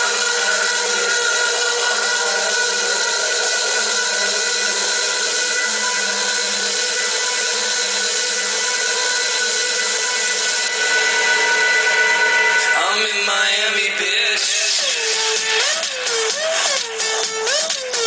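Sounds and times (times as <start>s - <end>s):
loud car sound system: 0.0s - 18.0s.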